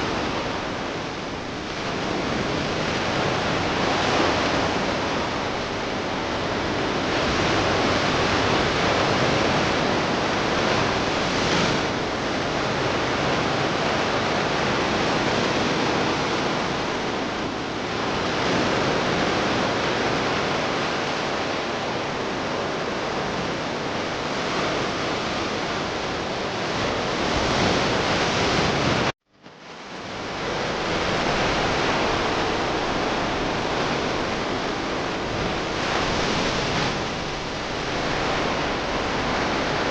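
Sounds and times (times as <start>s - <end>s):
sea surf washing onto beach: 0.0s - 29.1s, 29.7s - 39.9s.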